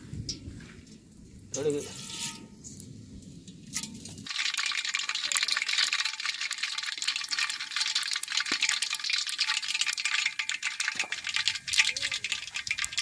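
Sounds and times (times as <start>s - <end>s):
hot oil sizzling and crackling: 1.5s - 13.0s.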